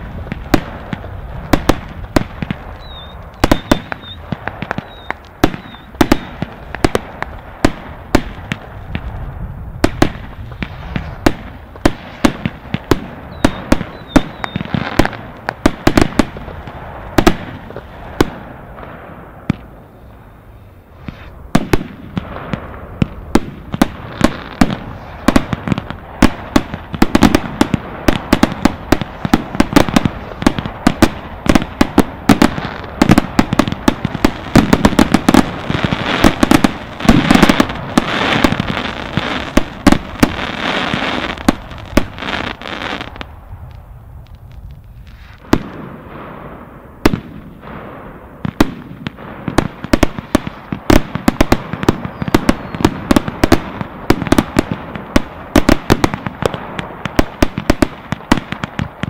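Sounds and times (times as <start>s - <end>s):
fireworks bangs and bursts: 0.0s - 59.0s.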